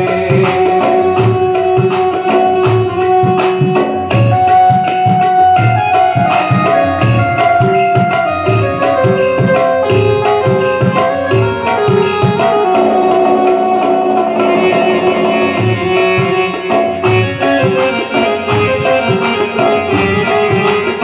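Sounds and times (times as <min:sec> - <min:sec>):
melody instrument: 0:00.0 - 0:21.0
tabla rhythm: 0:00.0 - 0:21.0.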